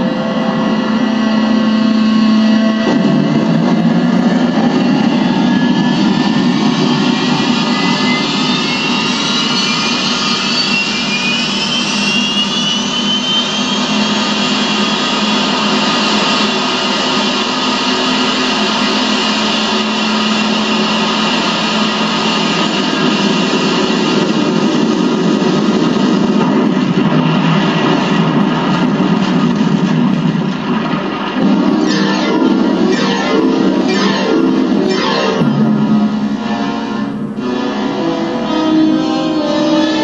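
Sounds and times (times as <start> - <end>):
loud steady rushing noise: 0.0 - 40.0
low hum: 0.0 - 40.0.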